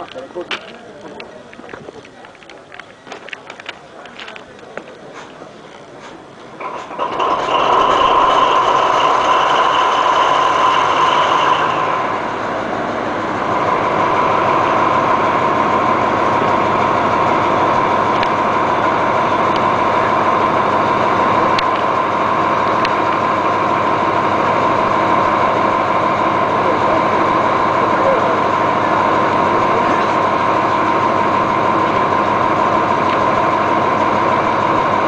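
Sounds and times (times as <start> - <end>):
diesel locomotive engine idling: 0.0 - 35.0
high whine: 5.4 - 35.0.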